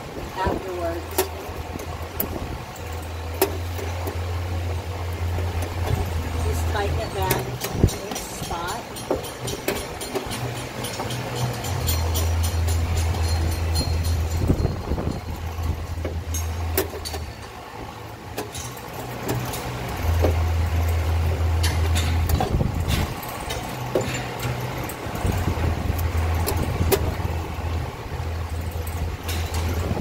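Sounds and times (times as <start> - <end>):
cables clicking and knocking: 0.0 - 30.0.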